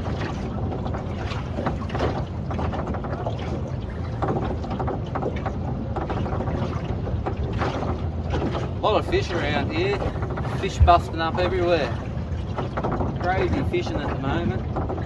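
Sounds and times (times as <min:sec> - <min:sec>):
boat motor rumbling: 0:00.0 - 0:15.0
water sloshing against hull: 0:00.0 - 0:15.0.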